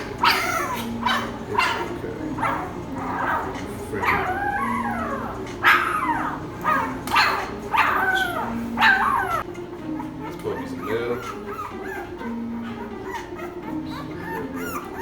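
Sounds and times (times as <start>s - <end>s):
puppy crying: 0.0s - 15.0s.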